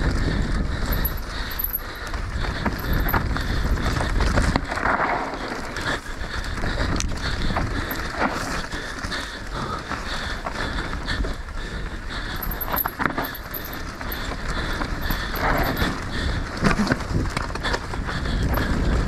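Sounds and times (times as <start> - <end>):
wind noise on microphone: 0.0 - 9.8, 10.5 - 19.0
bike knocking and rattling: 0.0 - 19.0
tyres crunching over dirt: 0.0 - 19.0.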